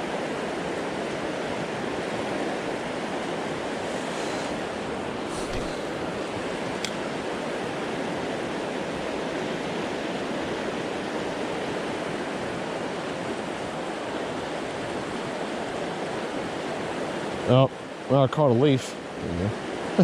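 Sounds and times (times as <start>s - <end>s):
river rapids rushing: 0.0s - 20.0s.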